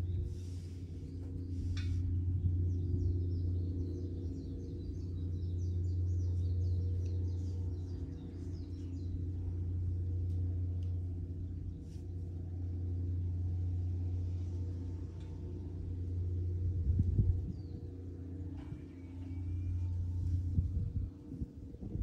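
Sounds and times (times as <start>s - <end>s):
small birds chirping: 0.0s - 20.8s
low hum: 0.0s - 22.0s.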